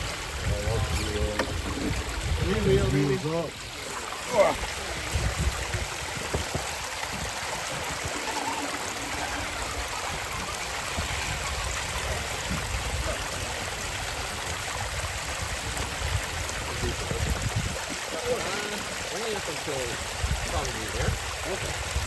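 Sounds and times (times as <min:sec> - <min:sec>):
creek water flowing: 0:00.0 - 0:22.0.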